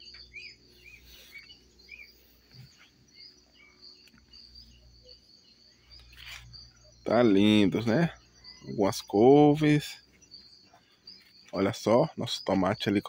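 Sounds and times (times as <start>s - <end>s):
faint bird chirps: 0.0s - 13.0s
high insect trill: 0.0s - 13.0s.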